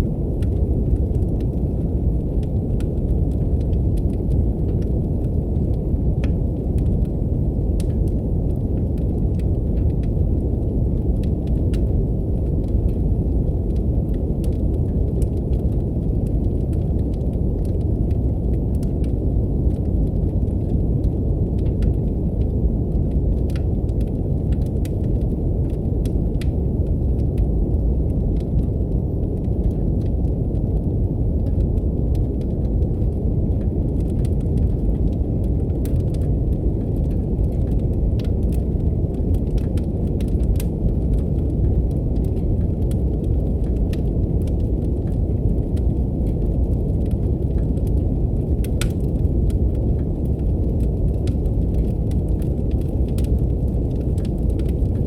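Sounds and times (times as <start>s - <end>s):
brown noise rumble: 0.0s - 55.0s
fireplace fire crackling: 0.0s - 55.0s.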